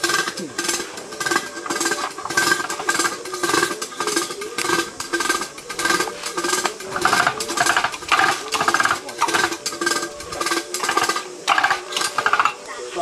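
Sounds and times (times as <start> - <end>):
hand-cranked sugarcane press turning: 0.0 - 13.0.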